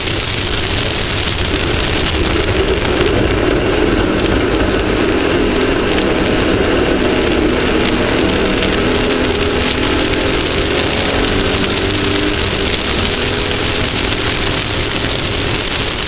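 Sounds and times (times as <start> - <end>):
vehicle engine running: 0.0 - 16.0
wind rush and driving noise: 0.0 - 16.0.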